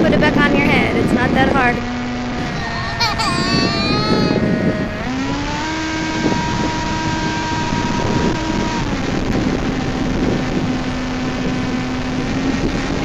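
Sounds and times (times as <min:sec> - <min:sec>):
wind noise: 0:00.0 - 0:13.0
electric motor and propeller whining: 0:01.2 - 0:13.0.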